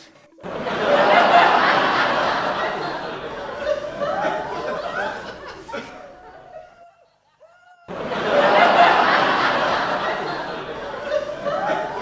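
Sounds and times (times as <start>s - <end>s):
people laughing hard: 0.0s - 12.0s.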